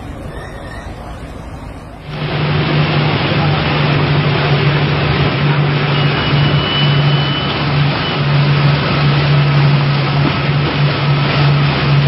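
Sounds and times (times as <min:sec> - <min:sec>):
motorboat engine hum: 0:00.0 - 0:12.0
rushing water: 0:00.9 - 0:12.0.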